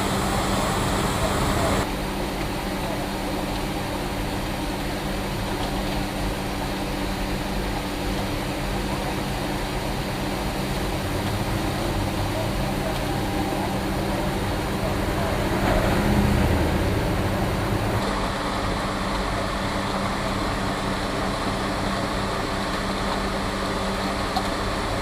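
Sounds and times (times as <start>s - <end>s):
diesel truck engine running: 0.0s - 1.9s, 4.5s - 25.0s.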